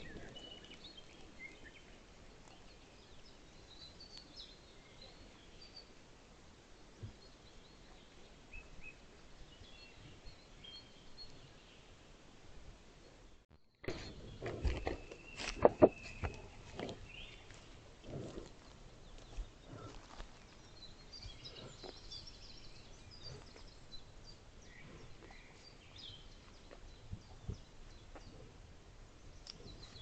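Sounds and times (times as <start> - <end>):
birds singing faintly: 0.0 - 12.2, 13.0 - 30.0.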